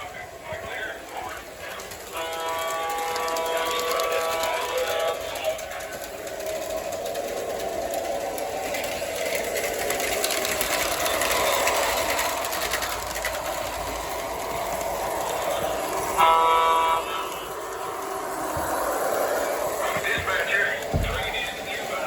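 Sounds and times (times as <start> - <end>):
model train running on track: 0.0 - 22.0.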